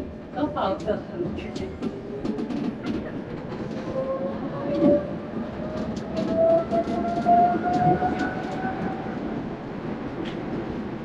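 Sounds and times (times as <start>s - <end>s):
tram drive whine: 0.0s - 11.0s
wheels rumbling on rails: 0.1s - 9.5s.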